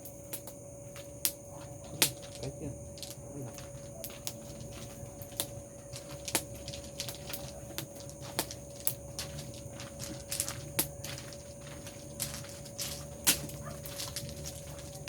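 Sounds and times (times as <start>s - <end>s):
sharp pops of fire: 0.0s - 11.4s, 12.0s - 15.0s
bonfire crackling: 0.0s - 15.0s
steady faint tone: 0.0s - 15.0s.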